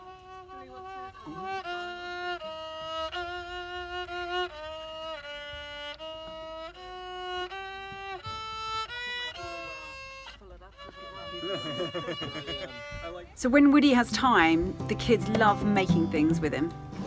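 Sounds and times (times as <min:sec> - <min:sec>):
violin playing slow tune: 0:00.0 - 0:17.0.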